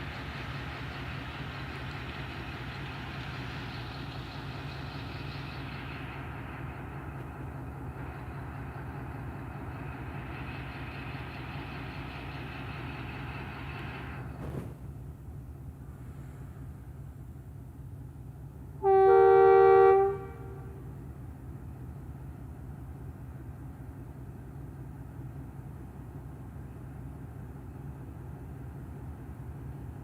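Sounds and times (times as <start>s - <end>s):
diesel locomotive engine throbbing: 0.0s - 30.0s.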